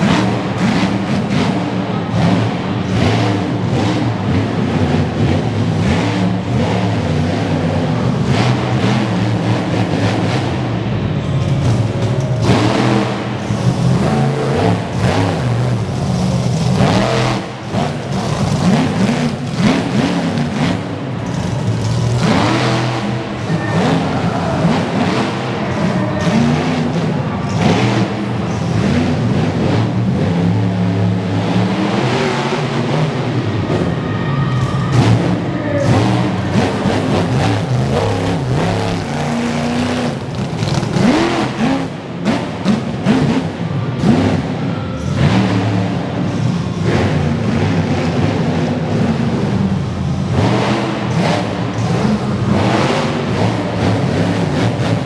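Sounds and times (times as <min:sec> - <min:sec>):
monster truck engine revving: 0:00.0 - 0:55.0.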